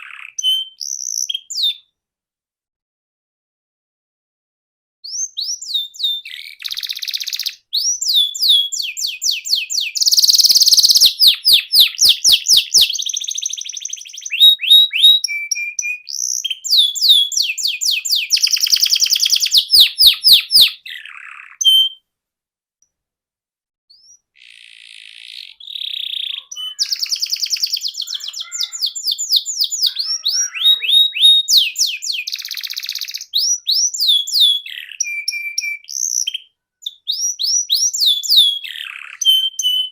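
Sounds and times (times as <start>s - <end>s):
canary singing fast trills: 0.0s - 1.9s, 5.0s - 22.0s, 23.9s - 39.9s.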